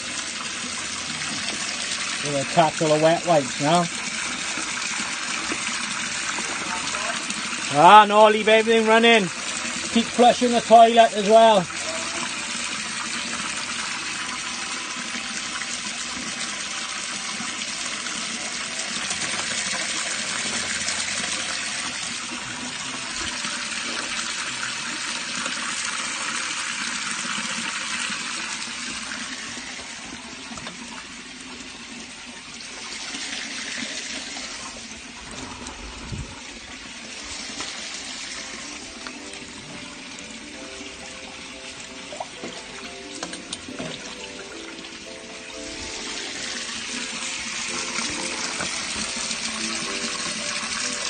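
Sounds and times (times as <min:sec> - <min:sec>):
water rushing through drain: 0:00.0 - 0:51.0.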